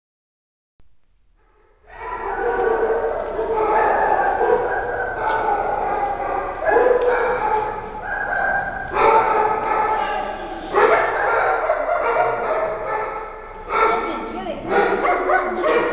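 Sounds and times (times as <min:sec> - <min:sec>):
many dogs barking and yelping: 0:01.4 - 0:15.9.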